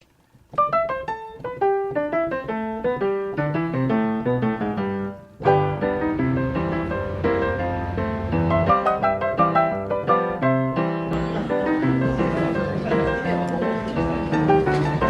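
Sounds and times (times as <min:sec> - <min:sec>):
piano music: 0:00.6 - 0:15.0.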